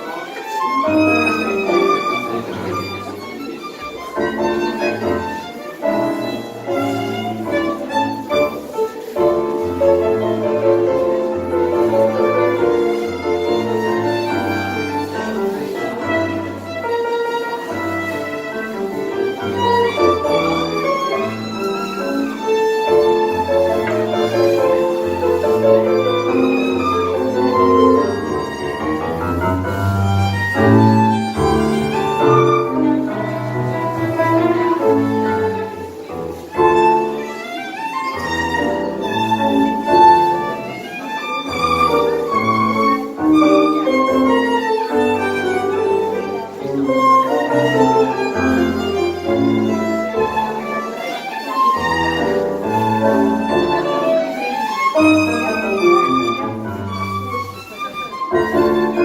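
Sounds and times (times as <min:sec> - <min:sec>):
low bowed strings: 0:00.0 - 0:59.0
piano: 0:00.0 - 0:59.0
tango ensemble playing: 0:00.0 - 0:59.0
violin melody: 0:00.0 - 0:59.0.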